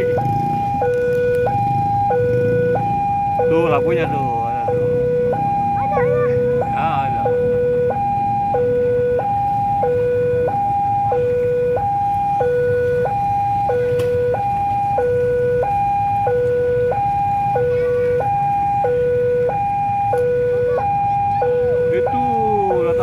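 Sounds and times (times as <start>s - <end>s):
two-tone level crossing alarm: 0.0s - 23.0s.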